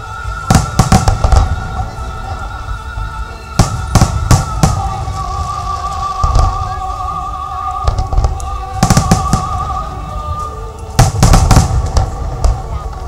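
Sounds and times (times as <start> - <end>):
music with long held notes: 0.0 - 13.0
fireworks bangs: 0.2 - 2.6, 3.5 - 13.0.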